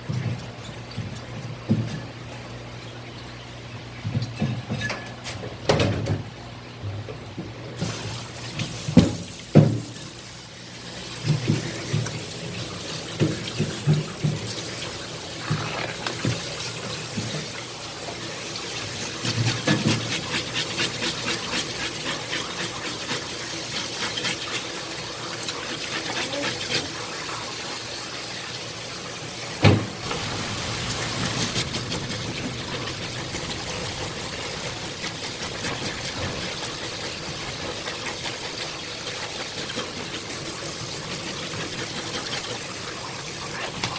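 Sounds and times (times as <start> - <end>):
water running from a tap: 7.8 - 43.9.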